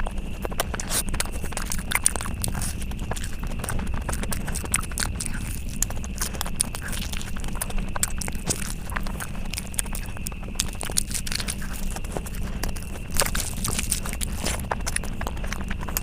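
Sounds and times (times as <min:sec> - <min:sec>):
low steady hum: 0:00.0 - 0:16.0
person chewing with wet mouth sounds: 0:00.0 - 0:16.0.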